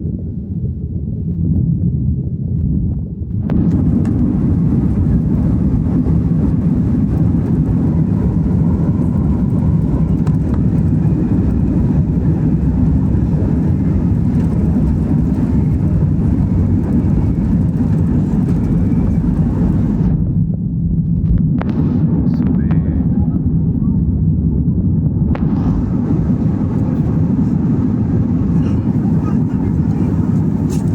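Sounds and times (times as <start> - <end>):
airliner engines from cabin: 3.0 - 30.9.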